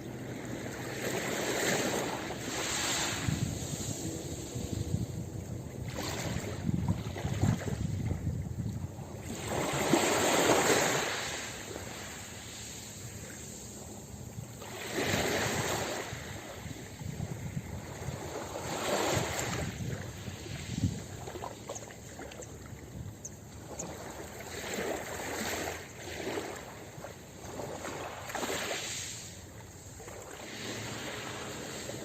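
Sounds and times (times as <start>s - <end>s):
ocean waves breaking on beach: 0.0s - 32.0s.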